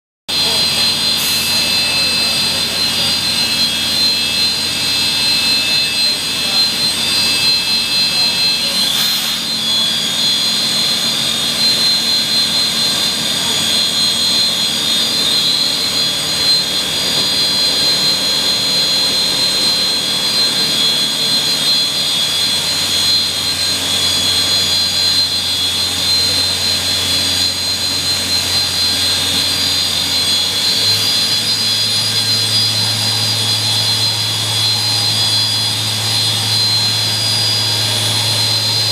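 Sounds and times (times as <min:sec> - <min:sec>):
machine high whine: 0:00.3 - 0:38.9.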